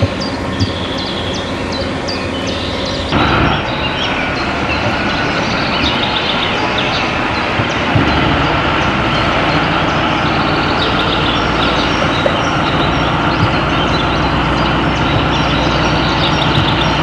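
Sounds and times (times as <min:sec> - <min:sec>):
birds chirping: 0:00.0 - 0:17.0
railcars mechanical running noise: 0:00.0 - 0:17.0.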